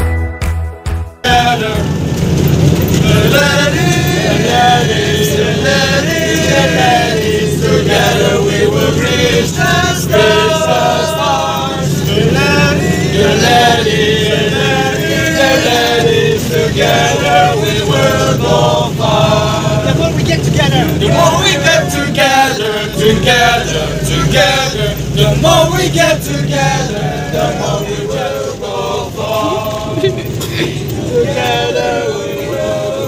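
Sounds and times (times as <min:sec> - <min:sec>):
bus engine and road rumble: 0:01.2 - 0:33.0
young men singing together: 0:01.2 - 0:33.0.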